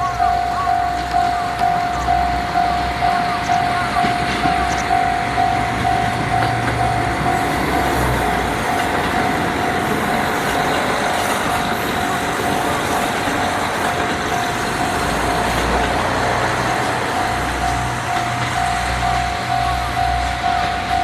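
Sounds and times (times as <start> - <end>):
diesel train rumbling past: 0.0 - 21.0
level crossing warning bell ringing: 0.0 - 21.0.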